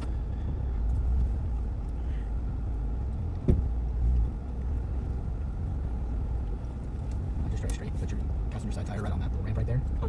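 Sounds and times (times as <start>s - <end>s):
truck engine running low: 0.0s - 10.0s.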